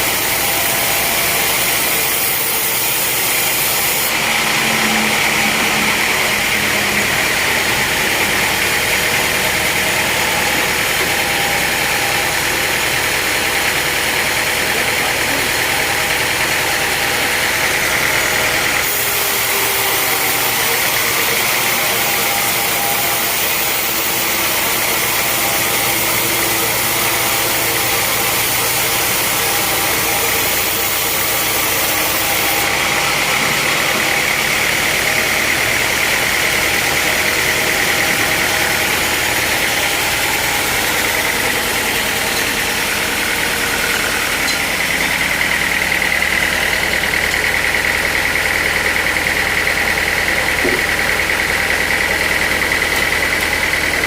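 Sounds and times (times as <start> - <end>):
high whine: 0.0 - 23.8, 24.4 - 47.4
sawmill machinery running: 0.0 - 54.0.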